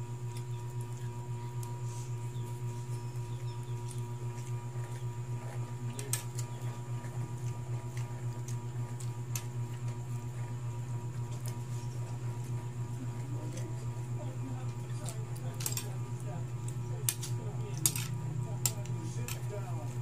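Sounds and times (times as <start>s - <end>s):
low pulsing hum: 0.0s - 20.0s.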